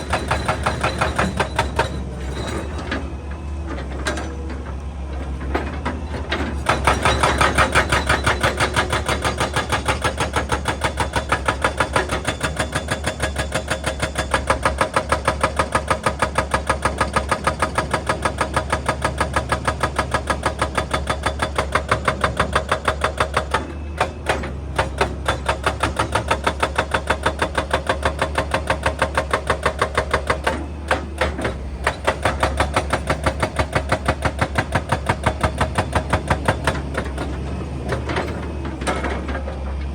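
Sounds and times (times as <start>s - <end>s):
hydraulic breaker hammering rock: 0.0s - 3.1s, 5.4s - 39.6s
excavator engine hum: 0.0s - 39.9s.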